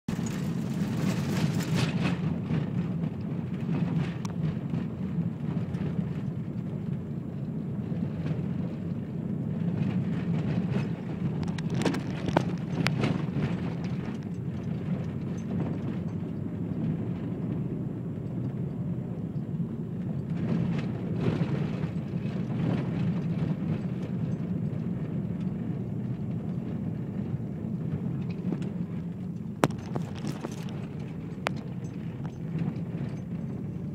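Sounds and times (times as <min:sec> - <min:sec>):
car engine and tyre rumble: 0:00.0 - 0:33.9
knocks and rattles over bumps: 0:00.1 - 0:07.1, 0:07.8 - 0:33.9.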